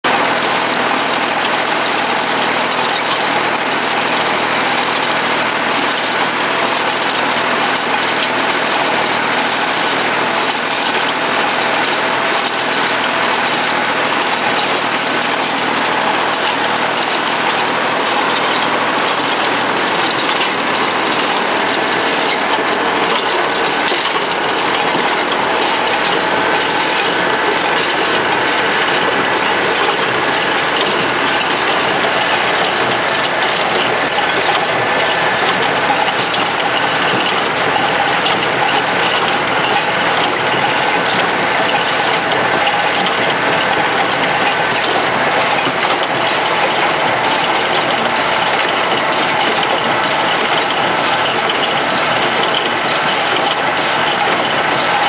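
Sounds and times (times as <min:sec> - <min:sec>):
baler and tractor running: 0:00.0 - 0:55.0.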